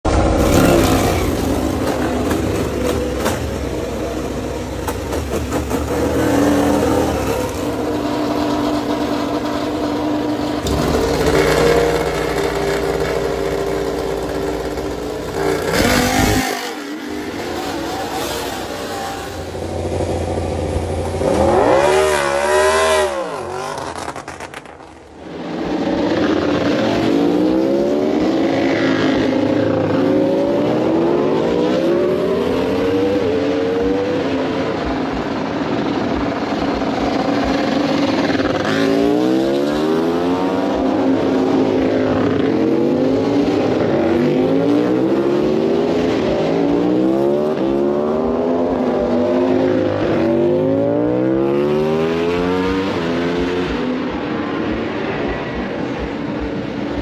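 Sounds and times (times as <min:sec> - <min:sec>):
racing motorcycle engines revving: 0:00.0 - 0:57.0.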